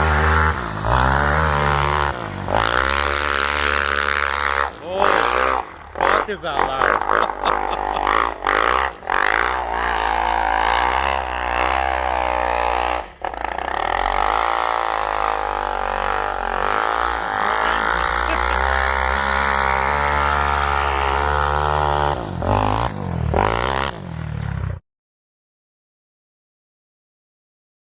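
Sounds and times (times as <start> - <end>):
engine revving: 0.0 - 24.8.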